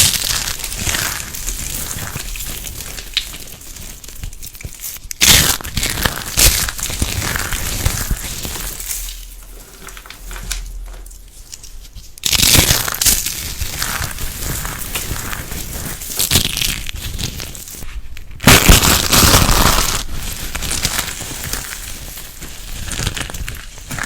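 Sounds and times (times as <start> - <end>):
brittle material crackling and crunching: 0.0 - 24.0.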